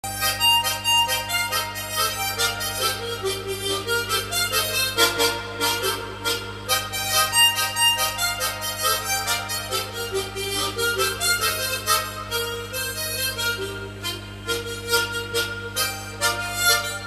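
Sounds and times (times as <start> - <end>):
solo harmonica melody: 0.0 - 17.0
steady low hum: 0.0 - 17.0.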